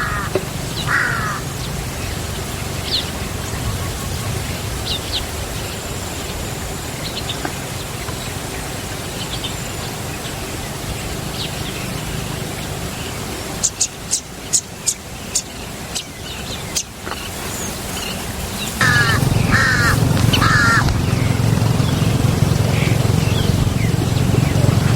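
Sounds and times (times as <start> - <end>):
steady outdoor hiss: 0.0 - 24.9.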